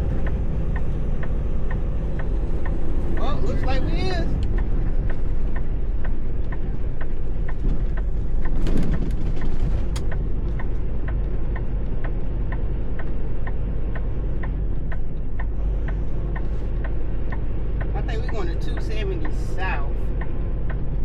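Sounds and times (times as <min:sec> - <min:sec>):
diesel engine low rumble: 0:00.0 - 0:21.0
turn signal clicking: 0:00.0 - 0:21.0.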